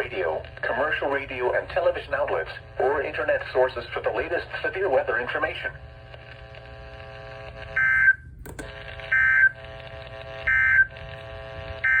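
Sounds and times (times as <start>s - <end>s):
radio hum and hiss: 0.0s - 12.0s.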